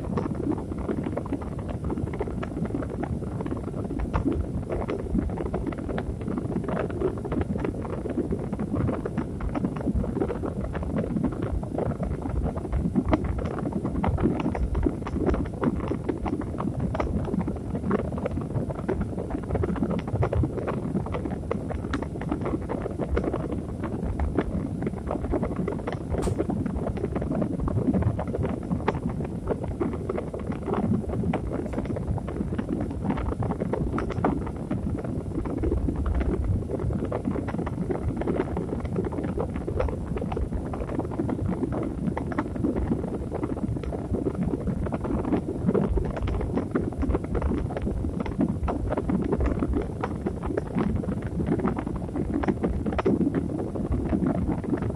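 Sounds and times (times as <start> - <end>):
low rumbling noise with crackle: 0.0 - 54.9.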